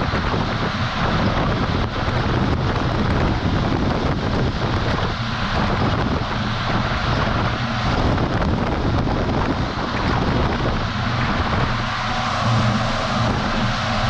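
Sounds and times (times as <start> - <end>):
road noise: 0.0 - 14.0
truck engine droning: 0.0 - 14.0
wind buffeting microphone: 0.0 - 14.0.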